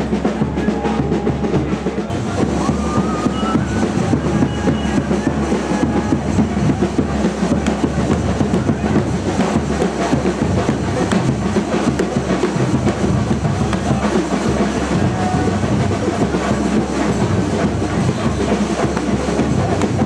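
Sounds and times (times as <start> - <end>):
loud dense drumming: 0.0 - 20.0.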